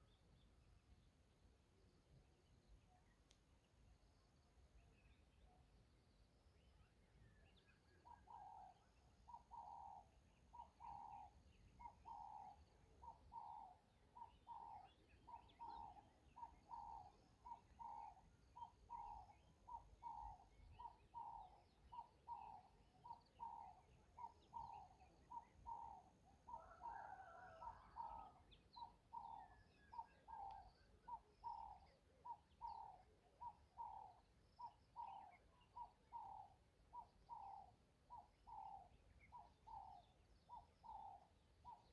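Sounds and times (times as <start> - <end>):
bird calling: 8.0 - 41.9.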